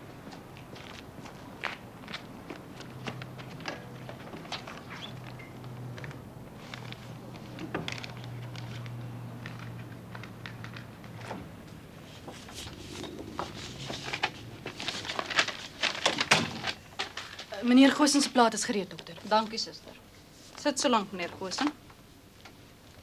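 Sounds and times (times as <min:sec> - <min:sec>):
faint clicks and rustles: 0:00.3 - 0:23.0
low steady hum: 0:03.6 - 0:23.0.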